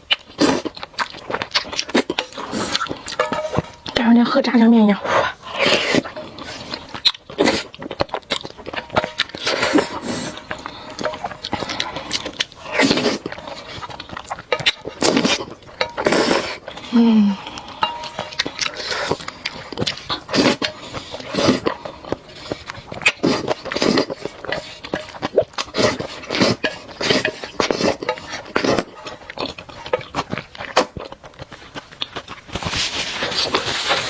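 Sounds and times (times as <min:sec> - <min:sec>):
wet chewing mouth clicks: 0:00.0 - 0:04.0, 0:04.9 - 0:32.8
slurping noodles: 0:00.2 - 0:03.8, 0:05.0 - 0:34.0.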